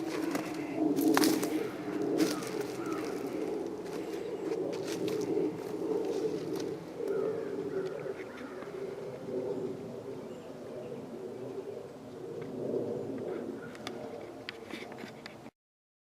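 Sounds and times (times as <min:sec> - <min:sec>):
bird cooing: 0:00.0 - 0:14.9.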